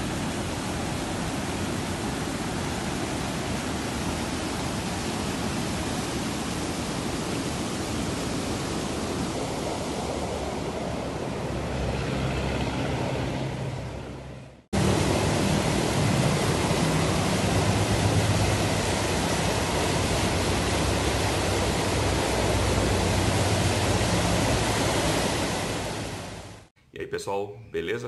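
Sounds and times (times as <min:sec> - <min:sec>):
water rushing over weir: 0:00.0 - 0:13.2, 0:14.8 - 0:26.7
deep water rumble: 0:00.0 - 0:26.7.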